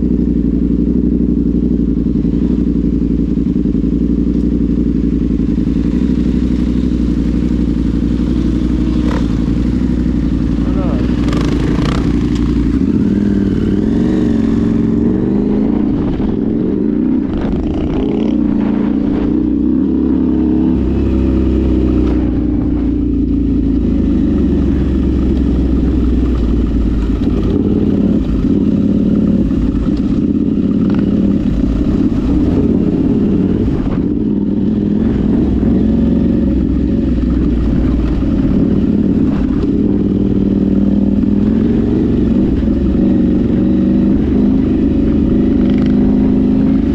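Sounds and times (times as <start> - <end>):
off-road vehicle engine: 0.0 - 46.9.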